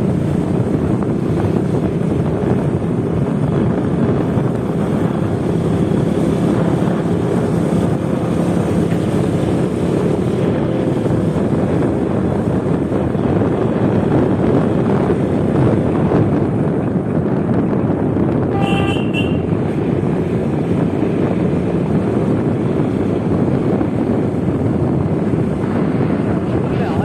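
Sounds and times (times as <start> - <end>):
motorcycle engine hum: 0.0 - 27.0
wind buffeting microphone: 0.0 - 27.0.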